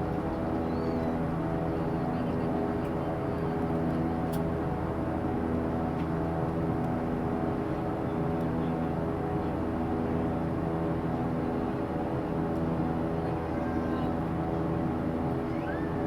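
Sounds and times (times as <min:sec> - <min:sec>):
airliner engine and airflow drone: 0:00.0 - 0:16.0.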